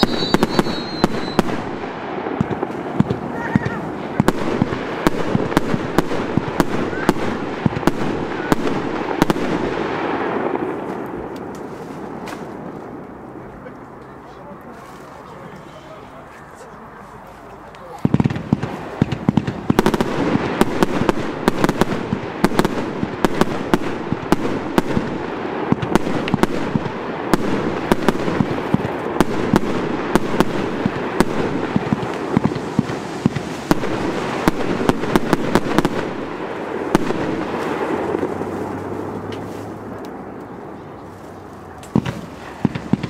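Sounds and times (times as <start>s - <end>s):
firework battery firing: 0.0s - 13.3s, 17.8s - 40.8s, 41.4s - 43.0s
firework reports and bursts: 0.0s - 13.4s, 17.6s - 43.0s.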